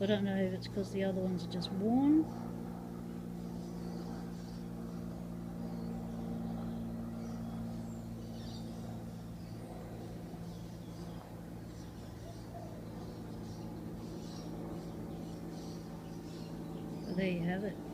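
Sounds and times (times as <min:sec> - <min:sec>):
low hum: 0:00.0 - 0:17.9.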